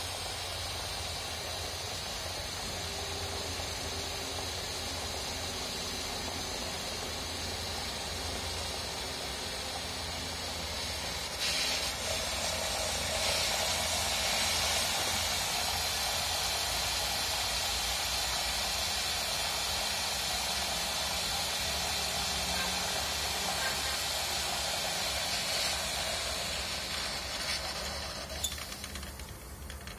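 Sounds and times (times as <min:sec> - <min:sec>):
steam hissing from pipes: 0:00.0 - 0:29.9.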